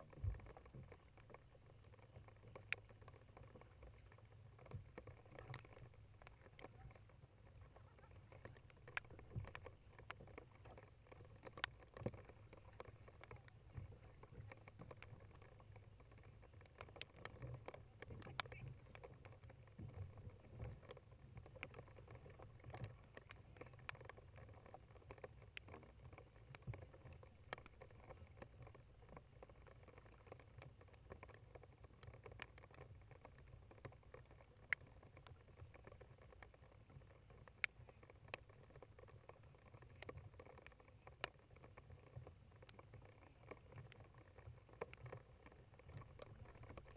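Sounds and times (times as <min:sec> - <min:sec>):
low steady rumble: 0:00.0 - 0:46.9
paddle drips and splashes: 0:00.0 - 0:46.9
ticks: 0:00.0 - 0:46.9.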